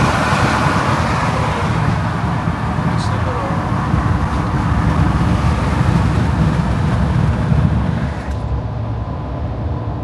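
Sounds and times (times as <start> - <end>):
low rumble of tyres and engine: 0.0 - 10.0.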